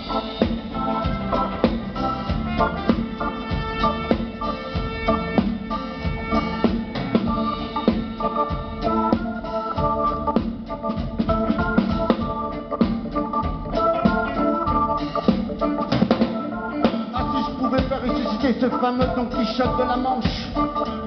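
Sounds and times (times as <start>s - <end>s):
double bass: 0.0s - 21.0s
drum kit: 0.0s - 21.0s
organ keyboard chords: 0.0s - 21.0s.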